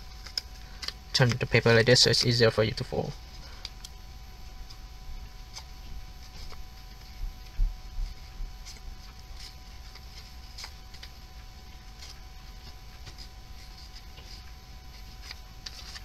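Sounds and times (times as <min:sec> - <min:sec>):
paper crinkling: 0:00.0 - 0:16.0.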